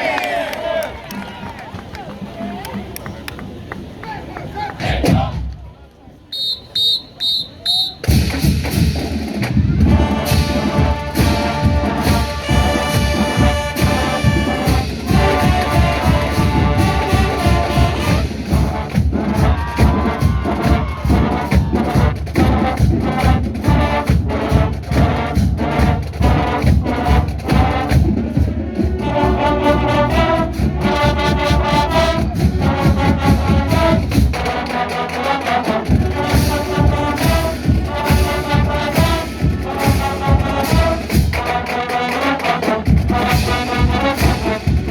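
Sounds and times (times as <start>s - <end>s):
marching band brass tune: 0.0s - 5.6s, 6.3s - 44.9s
driving drum beat: 7.8s - 44.9s.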